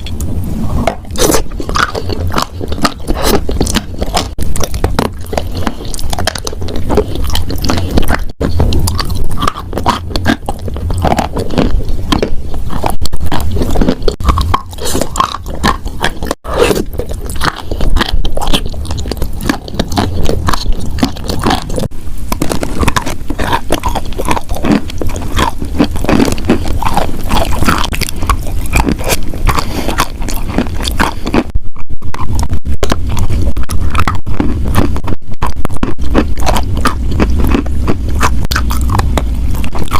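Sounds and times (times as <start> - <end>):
chalk being chewed: 0.0 - 31.5, 32.2 - 39.9.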